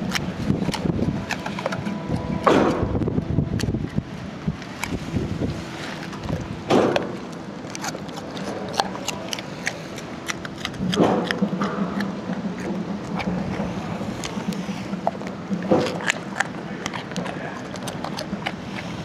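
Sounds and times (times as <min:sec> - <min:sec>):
dog crunching carrot: 0:00.0 - 0:19.0
low steady hum: 0:00.0 - 0:19.0.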